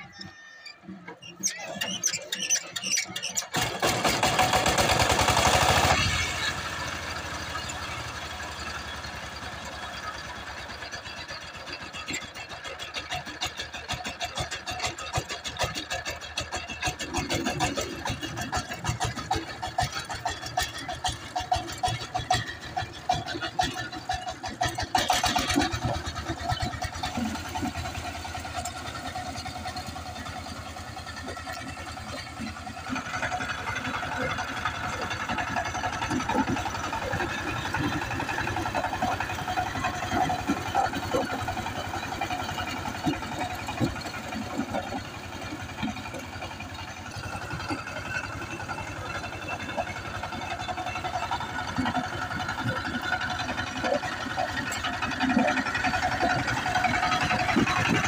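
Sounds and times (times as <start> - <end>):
diesel tiller engine knocking: 0.0 - 58.0
tiller churning soil: 0.0 - 58.0.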